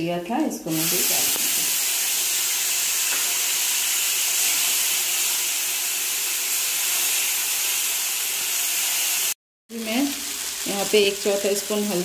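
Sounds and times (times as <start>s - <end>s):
paste sizzling in hot oil: 0.7s - 12.0s.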